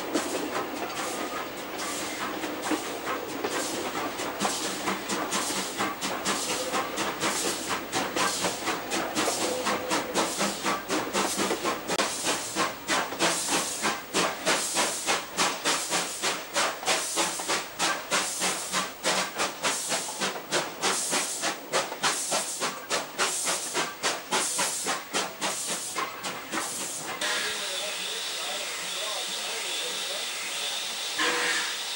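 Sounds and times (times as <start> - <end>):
steam hiss: 0.0 - 31.9
steam locomotive exhaust chuffs: 0.0 - 31.9.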